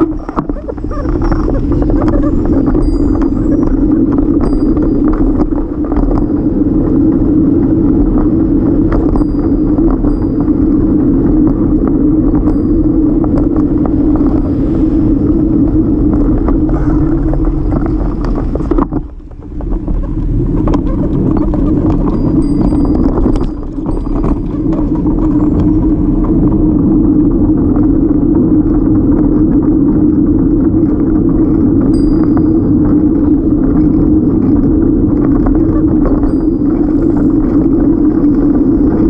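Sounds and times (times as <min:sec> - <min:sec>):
bike clicks and rattles: 0:00.0 - 0:39.0
road noise: 0:00.0 - 0:39.0
wind rumble: 0:00.0 - 0:39.0.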